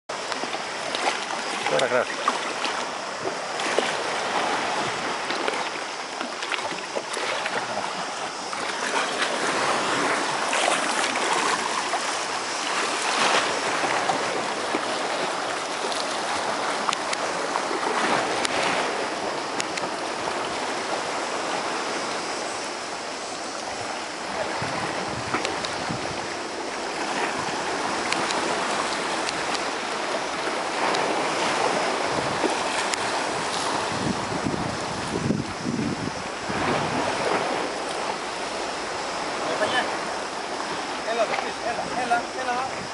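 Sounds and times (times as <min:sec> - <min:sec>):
sea waves washing on rocks: 0:00.1 - 0:42.9.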